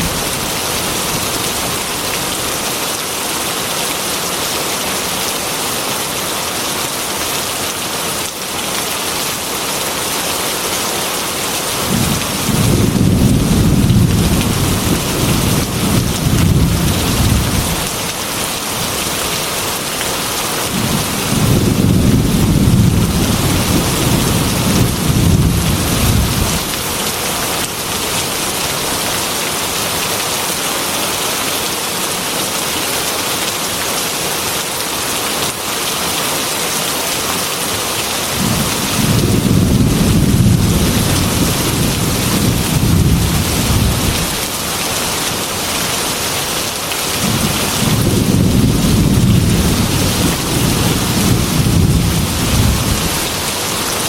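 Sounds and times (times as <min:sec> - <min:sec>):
heavy rain on a glass window: 0:00.0 - 0:54.0.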